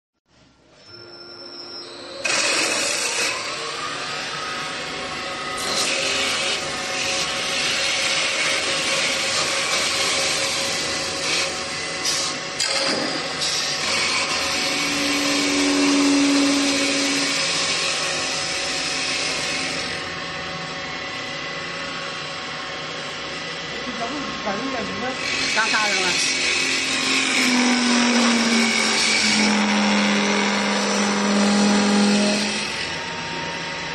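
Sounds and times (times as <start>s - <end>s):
machine hum: 0.4s - 33.9s
lathe cutters shaving wood: 2.0s - 33.9s.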